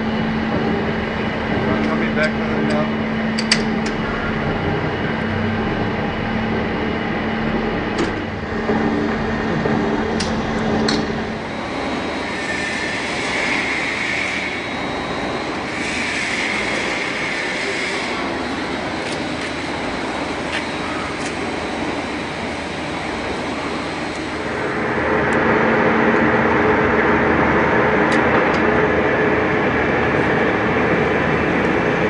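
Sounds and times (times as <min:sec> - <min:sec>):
high whine: 0:00.0 - 0:32.0
lathe running: 0:00.0 - 0:32.0.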